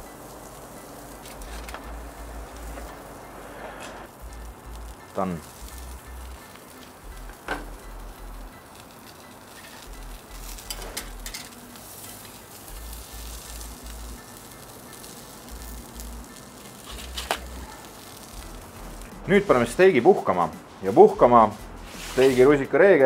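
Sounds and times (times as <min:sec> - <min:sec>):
steak sizzling on a grill: 0:00.0 - 0:23.0.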